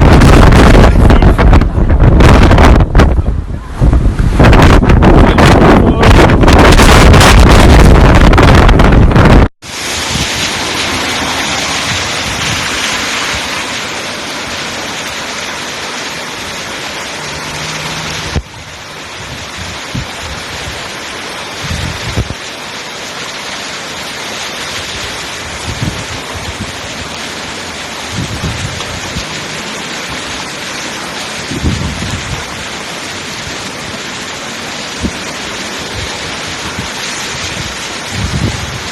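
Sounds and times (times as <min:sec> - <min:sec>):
wind buffeting microphone: 0:00.0 - 0:13.7, 0:18.0 - 0:22.5, 0:24.8 - 0:38.9
heavy rain hiss: 0:00.0 - 0:38.9.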